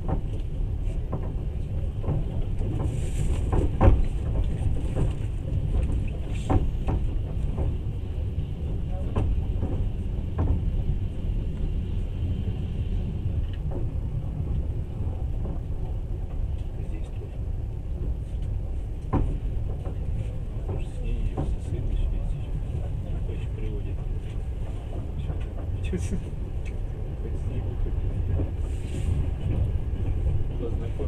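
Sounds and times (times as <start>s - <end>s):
train rumble inside carriage: 0.0s - 31.0s.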